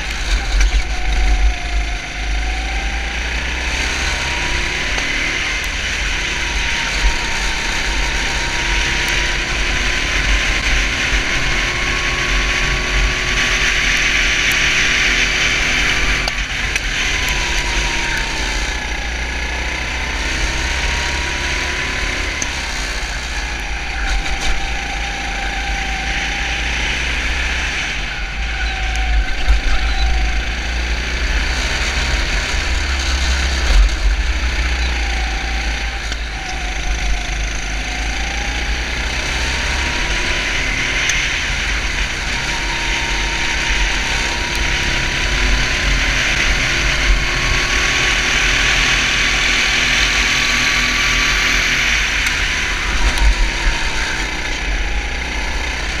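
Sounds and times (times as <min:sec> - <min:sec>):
kart engine racing: 0:00.0 - 0:56.0.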